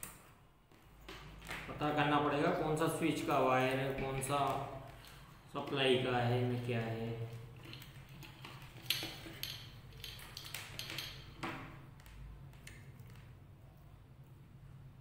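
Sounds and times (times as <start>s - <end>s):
wires and test leads clicking: 0.0s - 13.9s.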